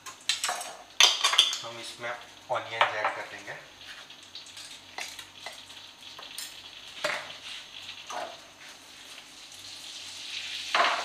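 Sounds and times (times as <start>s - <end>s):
cumin seeds sizzling in butter: 0.0s - 11.0s.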